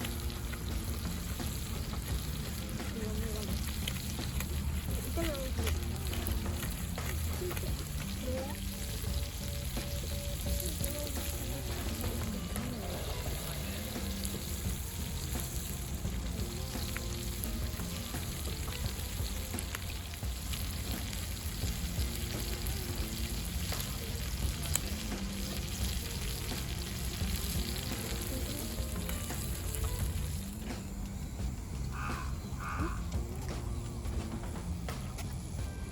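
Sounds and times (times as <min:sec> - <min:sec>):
wood fire crackling: 0:00.0 - 0:35.6
food sizzling: 0:00.0 - 0:35.8.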